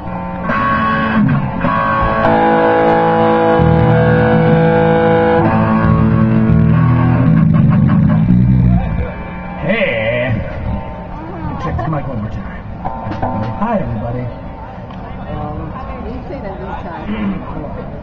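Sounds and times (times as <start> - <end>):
bass guitar notes: 0.0 - 15.9
electric guitar chord ringing: 0.0 - 15.9.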